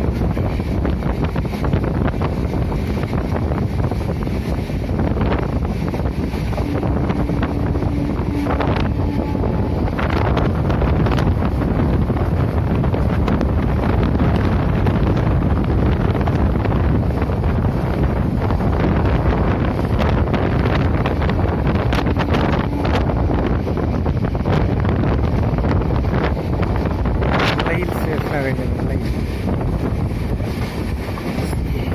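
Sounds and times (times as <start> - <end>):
train rumbling at speed: 0.0 - 31.9
wind buffeting microphone: 0.0 - 31.9.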